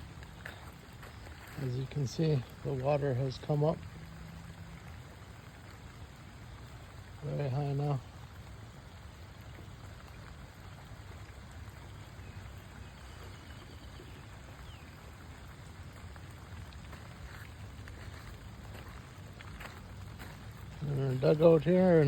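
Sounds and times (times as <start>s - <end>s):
hiss of water: 0.0s - 22.0s.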